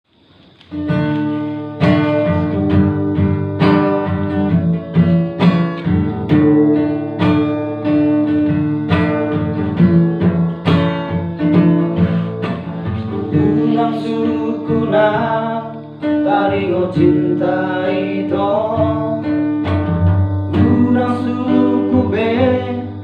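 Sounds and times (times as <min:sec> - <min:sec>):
acoustic guitar strumming chords: 0:00.6 - 0:23.0.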